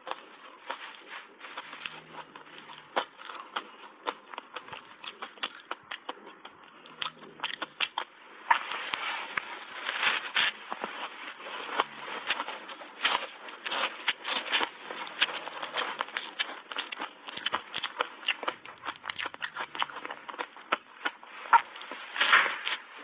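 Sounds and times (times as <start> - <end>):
chewing crunchy ice: 0.0 - 22.3.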